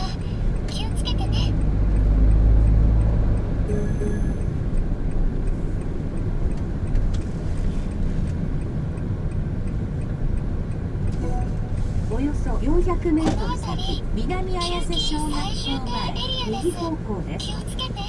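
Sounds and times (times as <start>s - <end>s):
in-cabin engine and road rumble: 0.0s - 18.0s.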